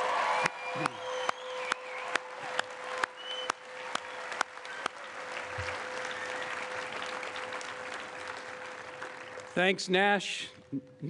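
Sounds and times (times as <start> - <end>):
applause: 0.0 - 9.9.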